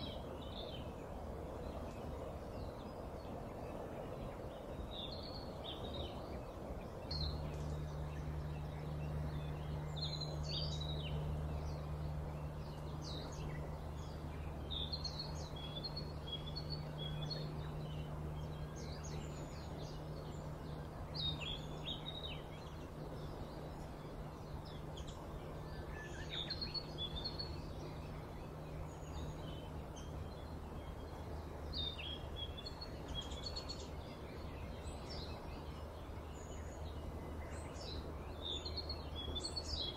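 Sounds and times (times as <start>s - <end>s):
small birds chirping: 0.0s - 39.9s
steady low hum: 0.0s - 39.9s.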